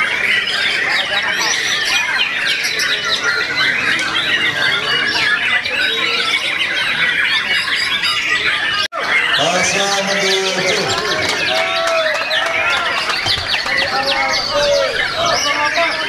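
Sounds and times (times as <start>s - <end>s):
songbirds chorus of chirps and trills: 0.0s - 16.0s.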